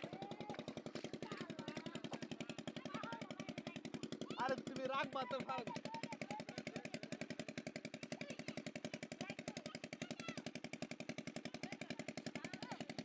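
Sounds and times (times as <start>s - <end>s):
small engine puttering: 0.0s - 13.0s.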